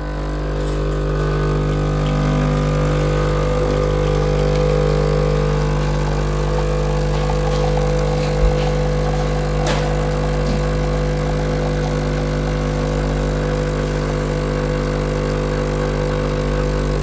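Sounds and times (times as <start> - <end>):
espresso machine pump humming: 0.0 - 17.0.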